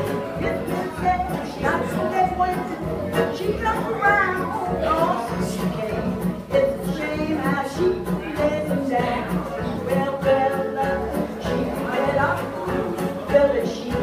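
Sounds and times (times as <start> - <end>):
woman singing into microphone: 0.0 - 14.0.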